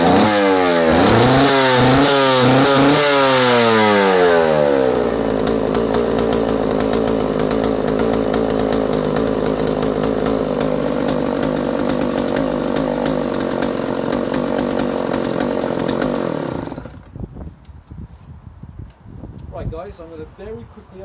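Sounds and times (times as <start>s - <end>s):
chainsaw engine running: 0.0s - 17.2s.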